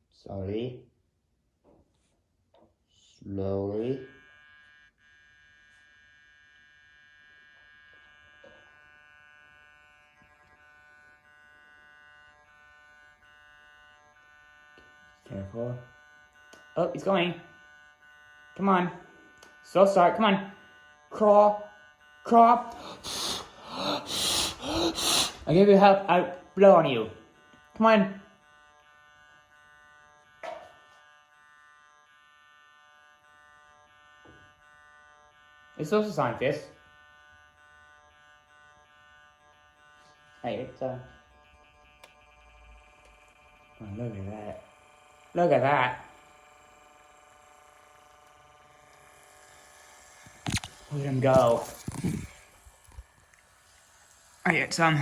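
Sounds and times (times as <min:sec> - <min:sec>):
small electric motor buzzing: 0:02.9 - 0:55.0.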